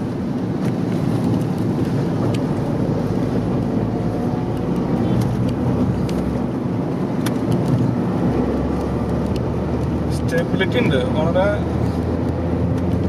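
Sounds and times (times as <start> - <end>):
car engine pulling under throttle: 0.0 - 13.0
road and tyre noise: 0.0 - 13.0.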